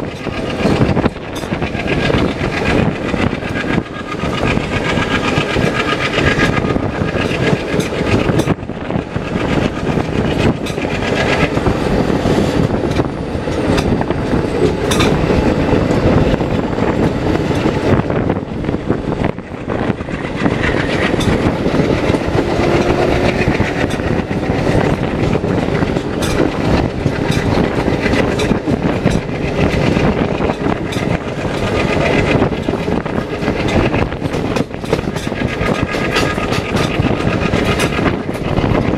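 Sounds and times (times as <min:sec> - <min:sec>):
train rail rumble: 0:00.0 - 0:38.9
wheels clacking over rail joints: 0:00.0 - 0:38.9.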